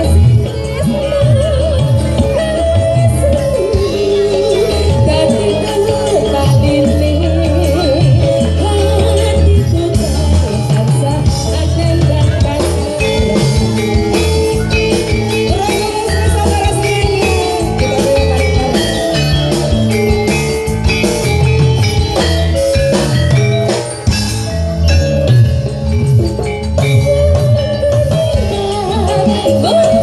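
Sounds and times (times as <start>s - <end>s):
drums: 0.0s - 30.0s
metal mallet instruments ringing: 0.0s - 30.0s
pitch-bending melody: 0.0s - 30.0s.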